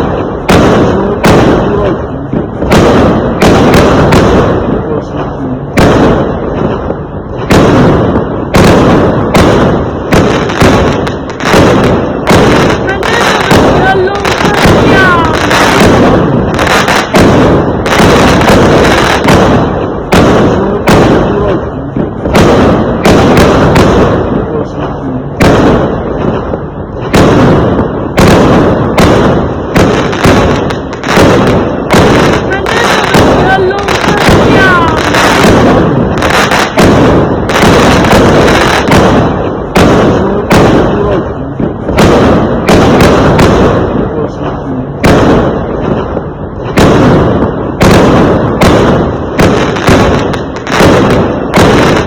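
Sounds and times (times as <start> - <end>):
fireworks bangs: 0.0 - 52.0
fireworks crackle and rumble: 0.0 - 52.0.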